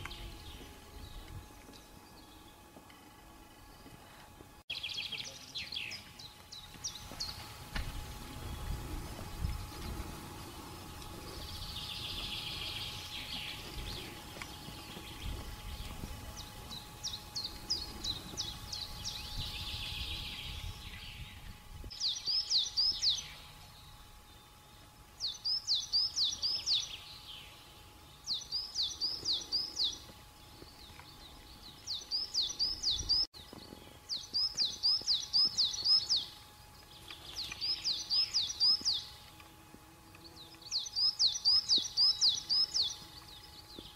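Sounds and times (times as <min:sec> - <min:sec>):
songbird chirping: 0:08.3 - 0:43.9.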